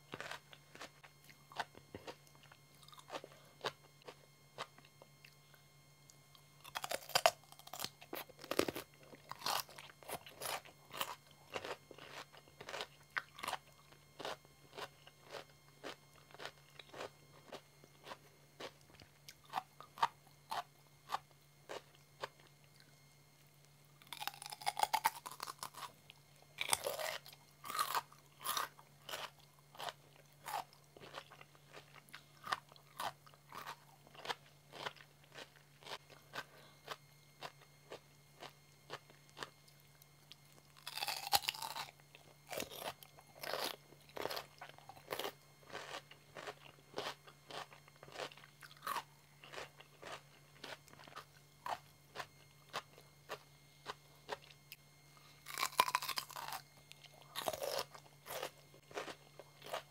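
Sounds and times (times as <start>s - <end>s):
crunchy cucumber chewing: 0.0s - 59.9s.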